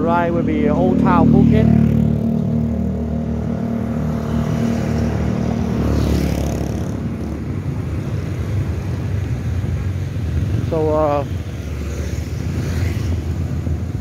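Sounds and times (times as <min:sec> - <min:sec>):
road traffic: 0:00.0 - 0:14.0
vehicle passing close: 0:00.0 - 0:14.0.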